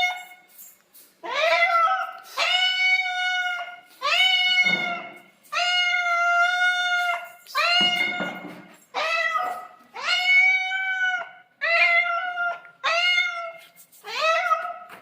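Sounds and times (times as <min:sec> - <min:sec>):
cat meowing: 0:01.2 - 0:15.0.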